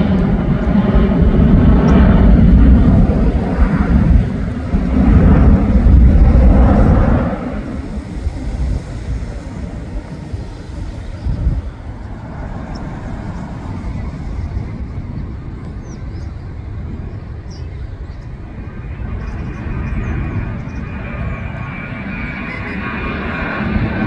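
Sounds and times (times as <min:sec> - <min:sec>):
jet airliner rumble: 0:00.0 - 0:24.0
wind buffeting microphone: 0:00.0 - 0:24.0.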